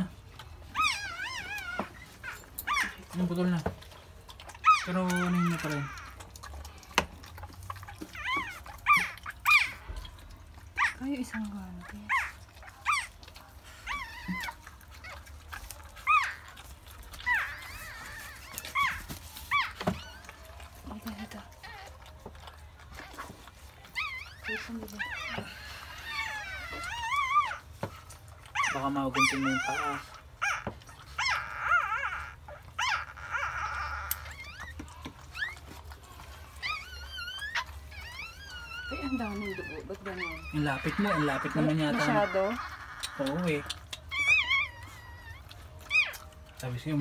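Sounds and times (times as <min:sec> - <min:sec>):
puppies squealing: 0:00.0 - 0:47.0.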